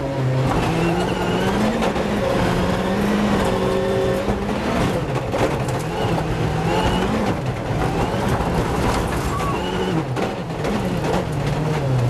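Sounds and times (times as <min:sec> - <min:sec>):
rally car engine: 0:00.0 - 0:12.0
tyres on loose gravel: 0:00.2 - 0:12.0.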